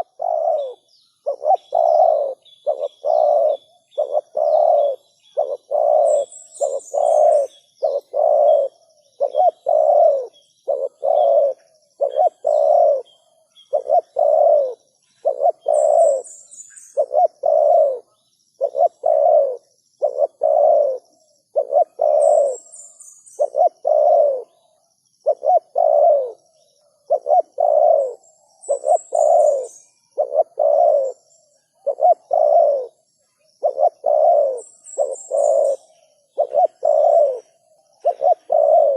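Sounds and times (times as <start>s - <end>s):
dove cooing: 0.0s - 38.9s
high bird twitter: 0.0s - 38.9s.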